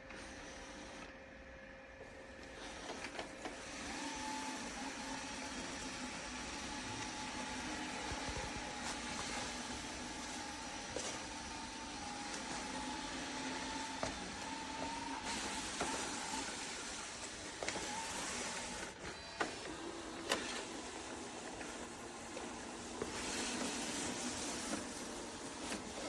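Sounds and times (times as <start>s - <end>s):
robot vacuum motors whirring: 0.0s - 26.0s.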